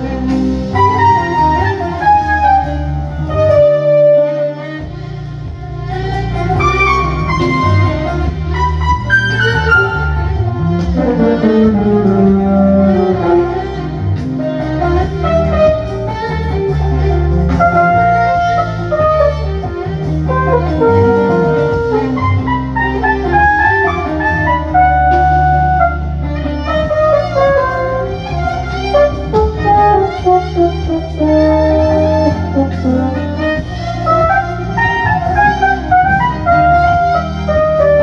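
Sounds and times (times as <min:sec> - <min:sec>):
bass guitar: 0:00.0 - 0:38.0
drum kit: 0:00.0 - 0:38.0
violin melody with sliding notes: 0:00.0 - 0:38.0.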